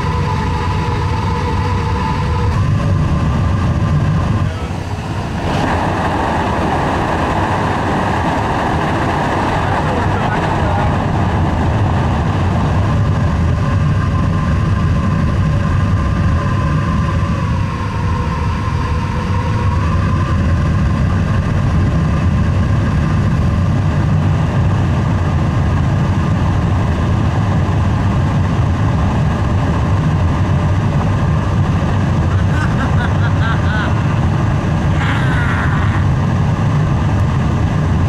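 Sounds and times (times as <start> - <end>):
air blower rumble with whine: 0.0 - 38.0.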